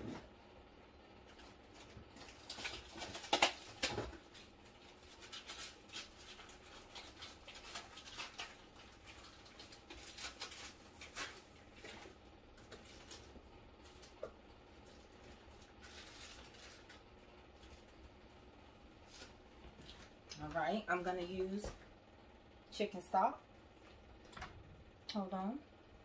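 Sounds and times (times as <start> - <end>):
things being handled in a kitchen: 0.0 - 25.2.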